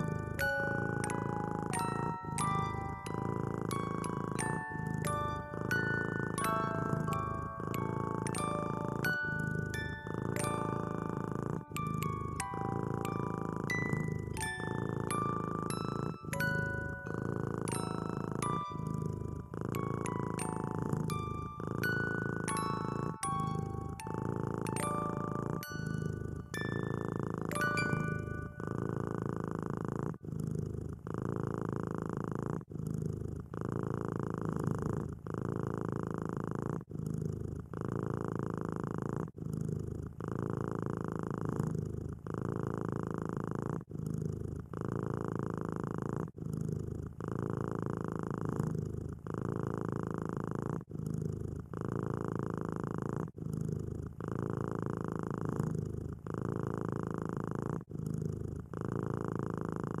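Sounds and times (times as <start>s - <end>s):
kitten purring: 0.0s - 60.0s.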